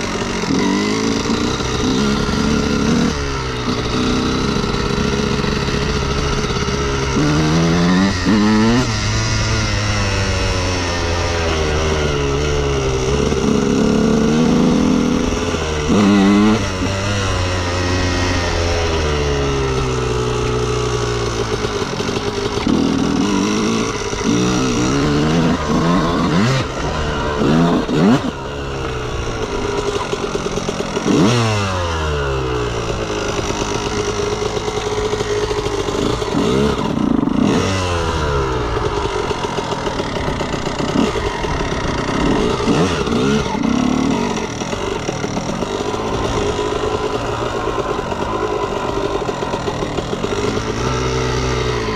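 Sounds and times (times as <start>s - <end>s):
two-stroke motorcycle engine revving: 0.0s - 51.9s.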